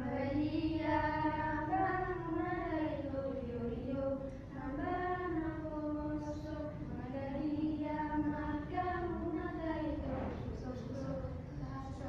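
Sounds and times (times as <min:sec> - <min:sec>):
teenagers singing in unison: 0:00.0 - 0:11.3.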